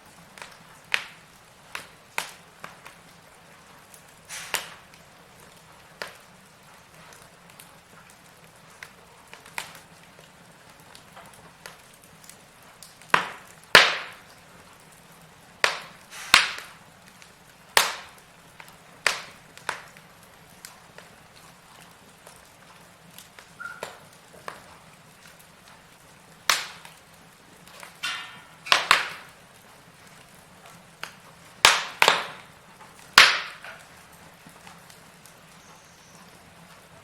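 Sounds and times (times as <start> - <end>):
firewood crackling and popping: 0.0 - 37.0.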